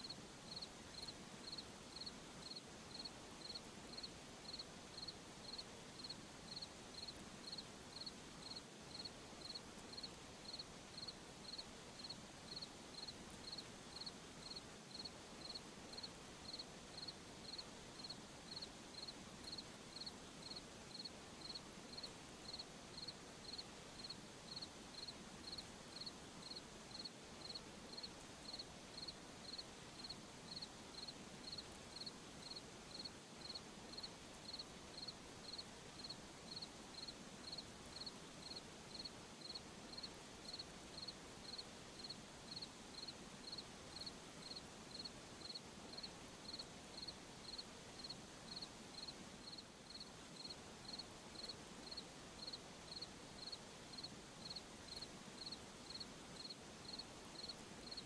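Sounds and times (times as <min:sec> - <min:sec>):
cricket chirping: 0:00.0 - 0:58.0
soft night hiss: 0:00.0 - 0:58.0.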